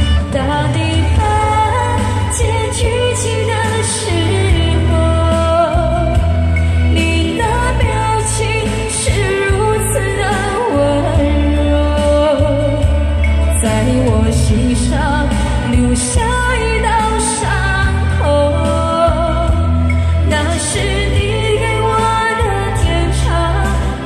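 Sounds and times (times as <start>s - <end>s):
karaoke backing track with bass beat: 0.0s - 24.0s
woman singing into microphone: 0.0s - 24.0s.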